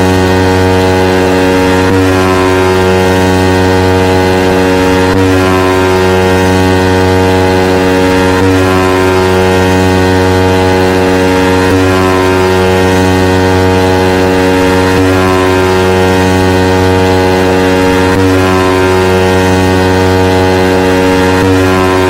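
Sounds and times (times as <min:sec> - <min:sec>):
buzzing low bass tone: 0:00.0 - 0:22.0.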